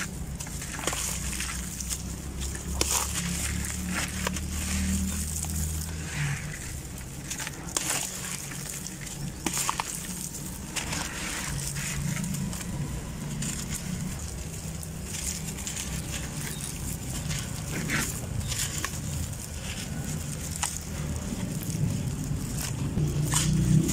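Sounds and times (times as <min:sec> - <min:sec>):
cement block crunching apart: 0:00.0 - 0:23.9
grit pattering into water: 0:00.0 - 0:23.9
steady low hum: 0:00.0 - 0:23.9.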